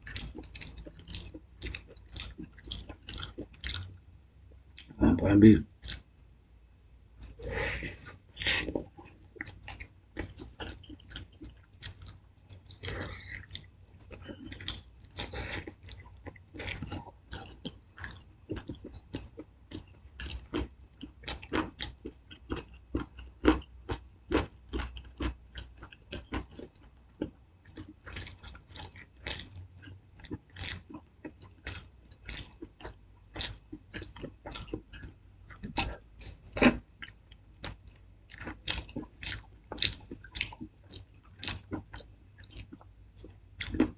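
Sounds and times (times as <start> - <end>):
person chewing food: 0.0 - 5.0, 5.7 - 6.2, 7.2 - 43.9.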